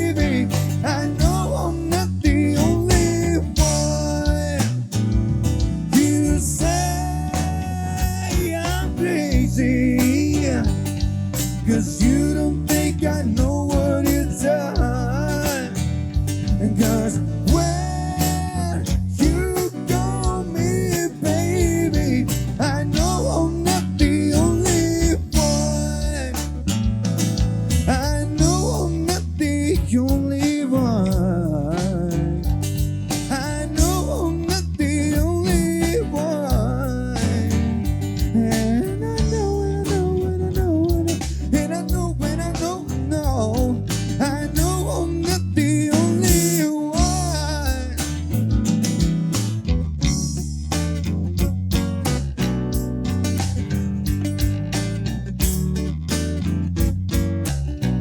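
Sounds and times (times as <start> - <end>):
drums: 0.0 - 58.0
guitar: 0.0 - 58.0
steady bass notes: 0.0 - 58.0.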